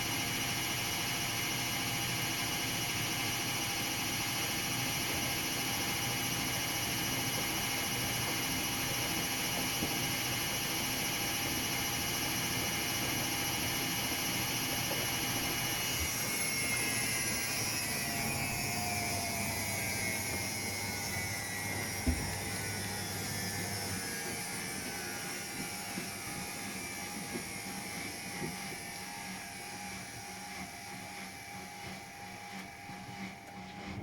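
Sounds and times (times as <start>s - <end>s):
washing machine spin whine: 0.0s - 34.0s.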